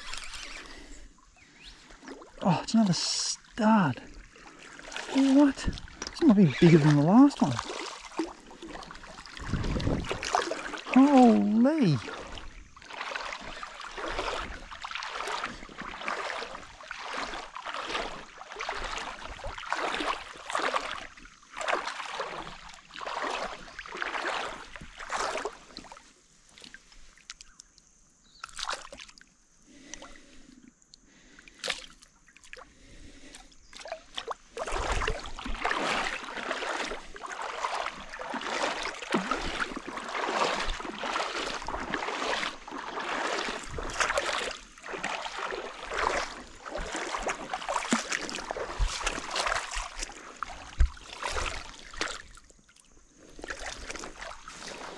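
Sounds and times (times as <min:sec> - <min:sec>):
water splashing around kayak: 0:00.0 - 0:54.9.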